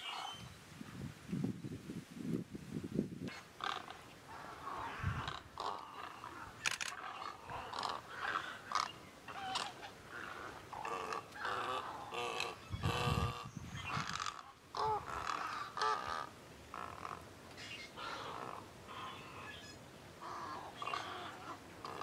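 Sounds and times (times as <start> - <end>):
wading birds croaking and squawking: 3.3 - 22.0.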